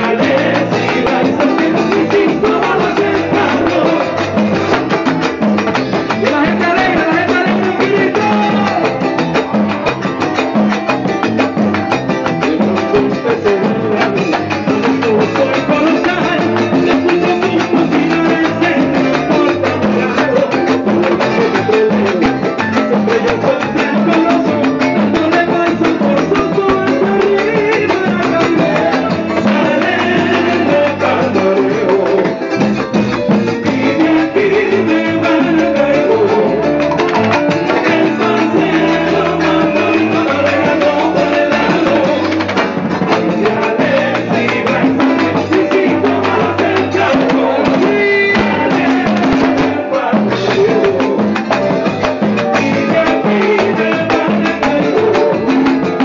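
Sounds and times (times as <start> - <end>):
person singing: 0.0 - 32.8, 33.4 - 56.0
congas played by hand: 0.0 - 56.0
latin percussion rhythm: 0.0 - 56.0.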